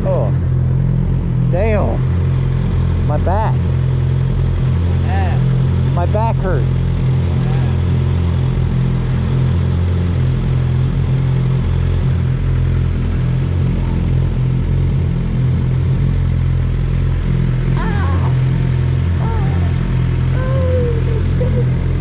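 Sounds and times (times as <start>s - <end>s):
motorcycle engine running steadily: 0.0s - 22.0s.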